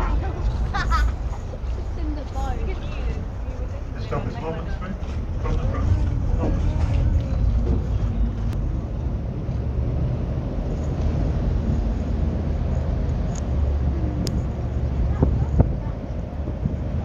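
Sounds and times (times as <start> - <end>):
ferry engine rumbling: 0.0 - 17.0.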